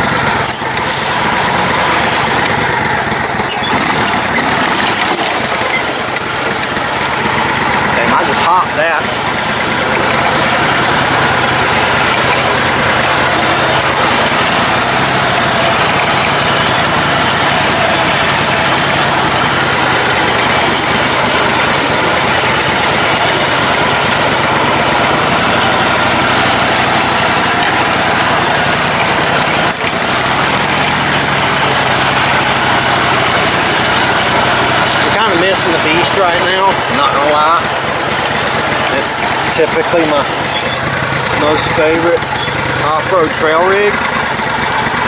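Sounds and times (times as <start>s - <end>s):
lawn tractor engine running: 0.0s - 45.0s.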